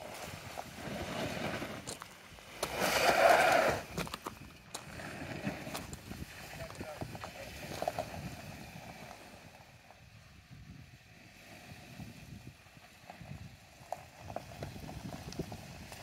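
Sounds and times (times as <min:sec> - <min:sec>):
gravel clicking under tyres: 0:00.0 - 0:16.0
pickup truck low rumble: 0:00.0 - 0:16.0.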